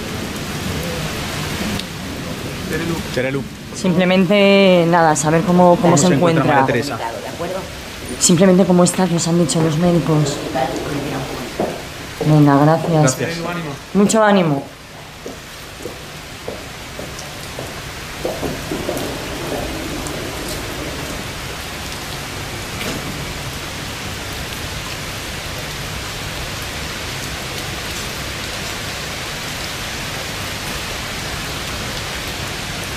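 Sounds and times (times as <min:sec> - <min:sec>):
rain falling: 0:00.0 - 0:32.9.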